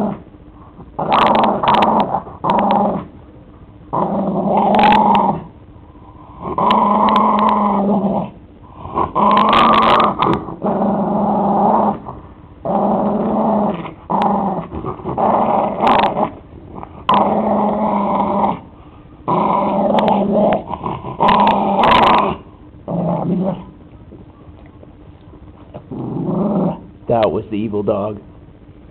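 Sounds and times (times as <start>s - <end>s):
dog growling: 0.0s - 3.2s, 3.9s - 24.4s, 25.6s - 27.0s.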